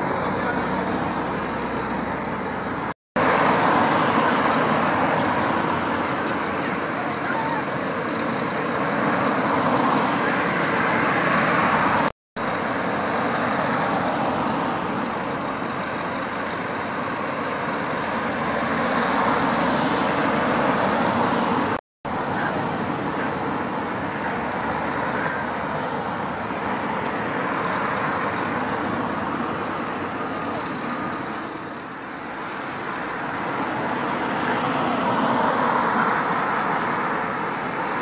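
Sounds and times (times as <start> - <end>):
cars passing close by: 0.0 - 38.0.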